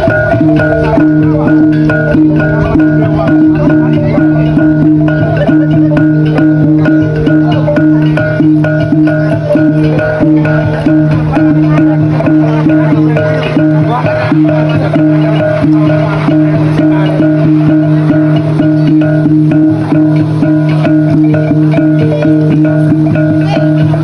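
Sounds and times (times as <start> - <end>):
sustained low tones: 0.0 - 24.0
tuned percussion music: 0.0 - 24.0.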